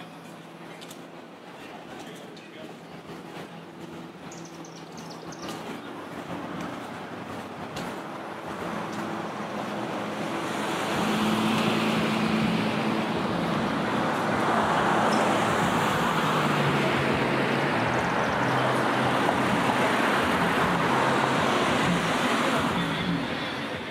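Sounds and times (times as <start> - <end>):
vehicle engine and tyre noise: 0.0 - 23.9.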